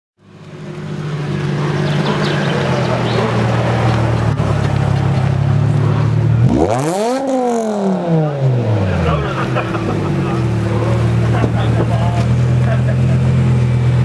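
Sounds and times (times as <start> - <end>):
car engine droning at low revs: 0.2 - 14.0.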